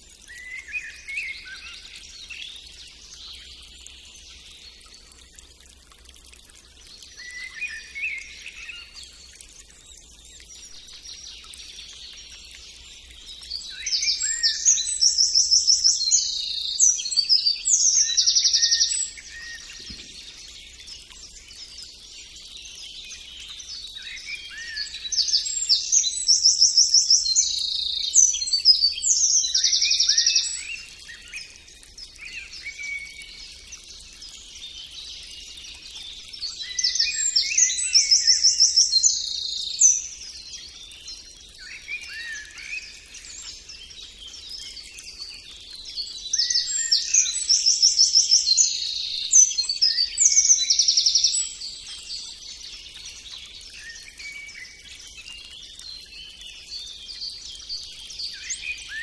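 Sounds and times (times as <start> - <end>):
bird trilled song: 7.1 - 33.6, 34.6 - 59.0.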